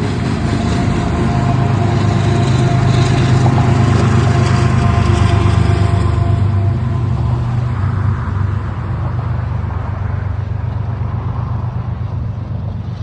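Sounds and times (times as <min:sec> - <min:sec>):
diesel train rumble: 0:00.0 - 0:13.0
train wheel and rail noise: 0:00.0 - 0:13.0.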